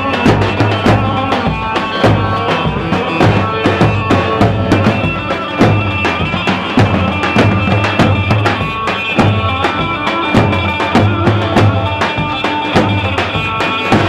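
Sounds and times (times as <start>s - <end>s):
driving drum beat: 0.0s - 14.0s
reedy melody: 0.0s - 14.0s.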